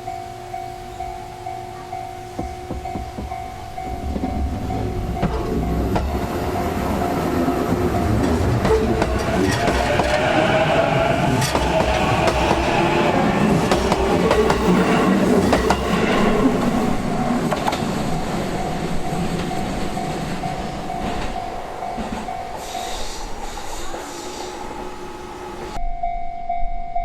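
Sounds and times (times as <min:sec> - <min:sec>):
electric train rumbling past: 0:00.0 - 0:27.0
train wheels clicking over rail joints: 0:02.2 - 0:25.8.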